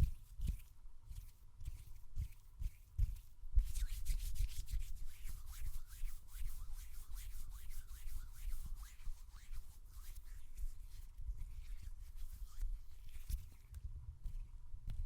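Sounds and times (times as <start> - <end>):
hands rubbing together: 0.0 - 14.5.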